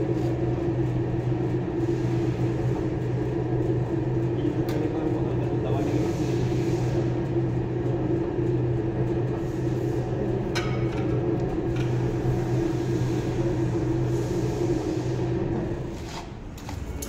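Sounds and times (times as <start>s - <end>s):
bending machine motor hum: 0.0s - 17.0s.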